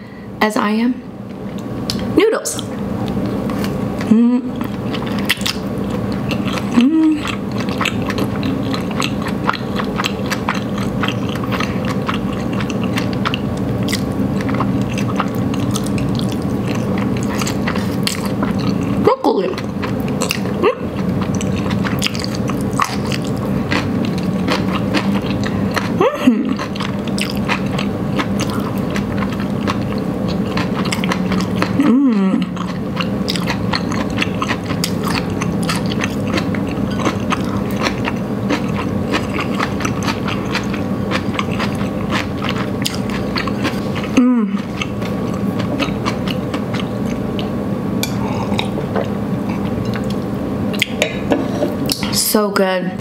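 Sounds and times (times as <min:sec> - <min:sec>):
wet chewing with mouth clicks: 0:01.5 - 0:51.2.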